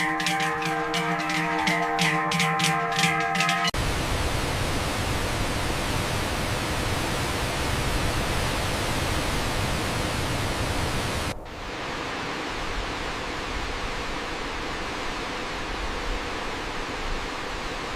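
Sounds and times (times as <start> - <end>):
steady outdoor rushing noise: 3.4 - 17.9.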